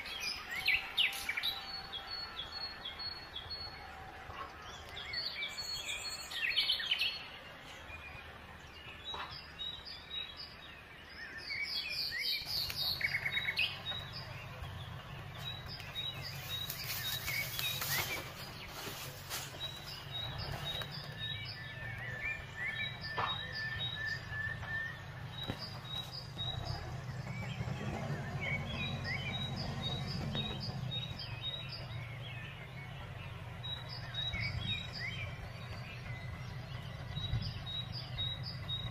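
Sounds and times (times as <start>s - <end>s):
birds chirping: 0.0s - 38.9s
tractor engine hum: 0.0s - 38.9s.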